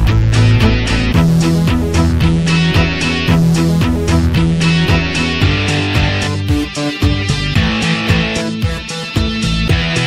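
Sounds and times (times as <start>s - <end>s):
rock music with guitar and drums: 0.0s - 10.0s.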